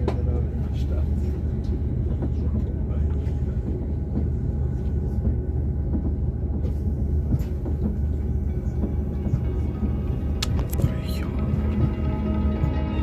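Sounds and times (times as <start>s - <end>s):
train rumble from inside carriage: 0.0s - 13.0s.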